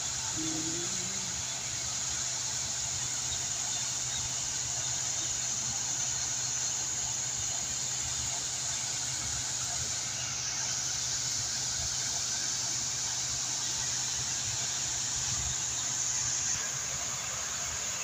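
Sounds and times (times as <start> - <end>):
fountain water splashing: 0.0 - 18.0.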